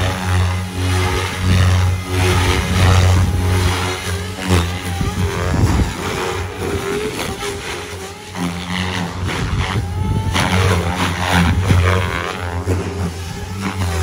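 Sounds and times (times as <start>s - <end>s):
model helicopter rotor buzzing: 0.0s - 14.0s.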